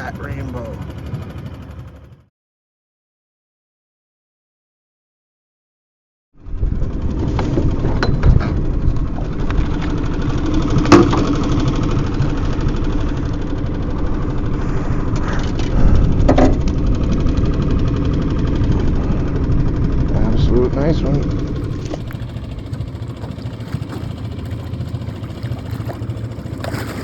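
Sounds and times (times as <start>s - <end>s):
boat motor running: 0.0s - 2.3s, 6.4s - 27.0s.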